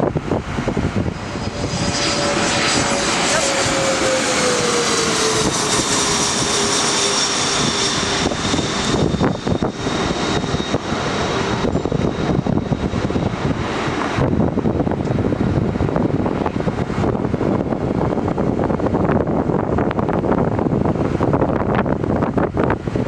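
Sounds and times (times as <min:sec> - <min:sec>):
jet engines running: 0:00.0 - 0:23.0
wind buffeting microphone: 0:00.0 - 0:23.0.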